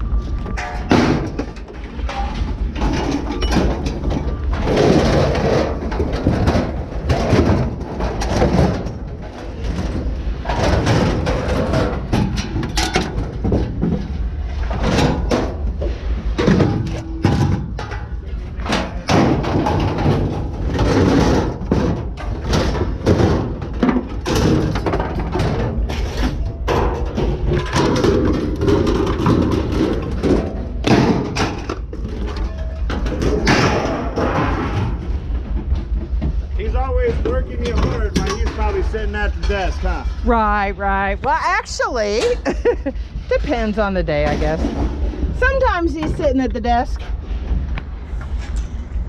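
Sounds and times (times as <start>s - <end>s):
engine rumbling: 0.0s - 49.0s.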